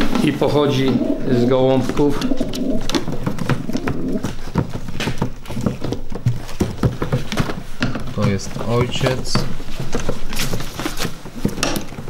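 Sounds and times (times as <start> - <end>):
paper being handled: 0.0 - 12.0
pigeons shuffling: 0.0 - 12.0
taps on wooden baskets: 1.8 - 12.0.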